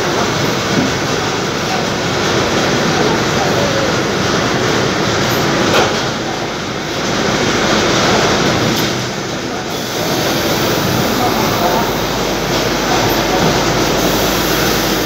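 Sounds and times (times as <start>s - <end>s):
factory machinery rumble and hiss: 0.0s - 15.0s.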